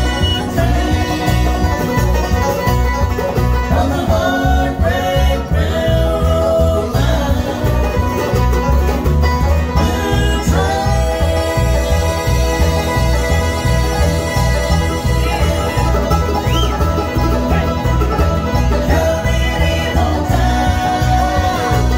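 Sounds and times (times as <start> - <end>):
banjo: 0.0 - 21.9
bluegrass band playing: 0.0 - 21.9.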